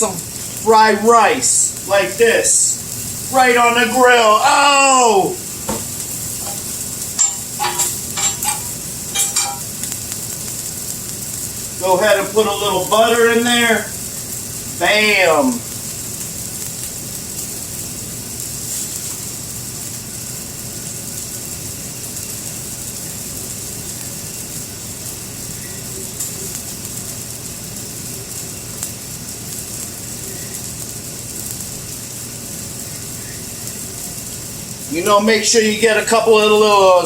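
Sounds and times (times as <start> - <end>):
food sizzling on a grill: 0.0 - 37.0.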